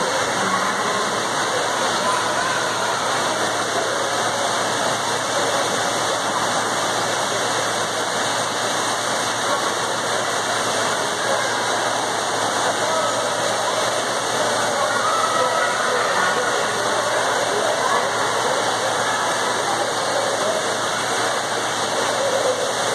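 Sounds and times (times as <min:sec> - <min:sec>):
faint indistinct voices: 0:00.0 - 0:22.9
pool water noise: 0:00.0 - 0:22.9.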